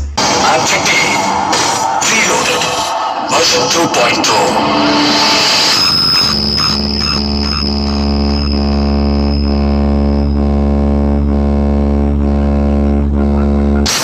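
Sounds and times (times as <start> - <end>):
deep bass drone from speakers: 0.0 - 14.0.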